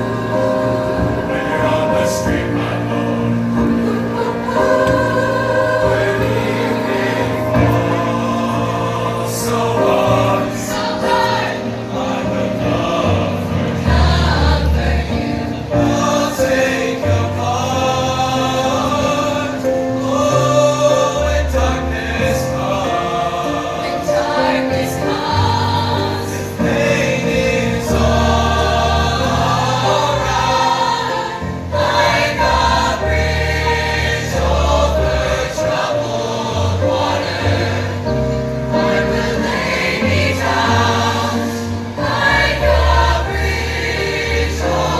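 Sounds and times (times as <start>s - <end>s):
choir singing: 0.0s - 44.9s.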